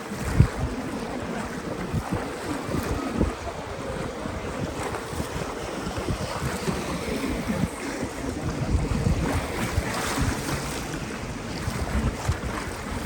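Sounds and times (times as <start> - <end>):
boat moving through water: 0.0 - 13.0
wind buffeting microphone: 0.0 - 13.0.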